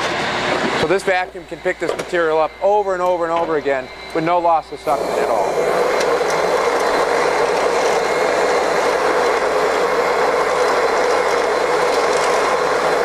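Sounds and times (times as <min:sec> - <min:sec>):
industrial vacuum rushing air: 0:00.0 - 0:13.0.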